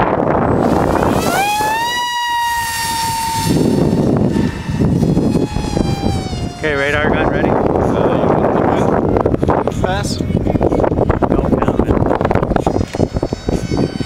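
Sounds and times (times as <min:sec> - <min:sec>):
electric motor high whine: 0:00.0 - 0:09.8, 0:10.8 - 0:14.0
wind noise on microphone: 0:00.0 - 0:14.0.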